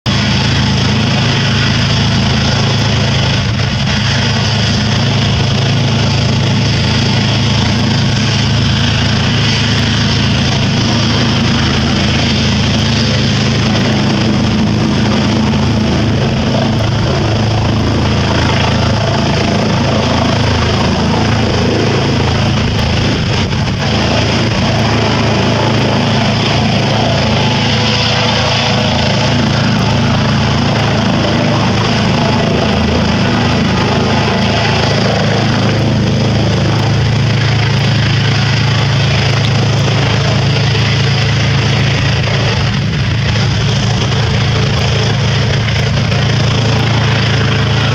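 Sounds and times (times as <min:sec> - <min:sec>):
helicopter rotors and turbines: 0:00.0 - 0:47.9.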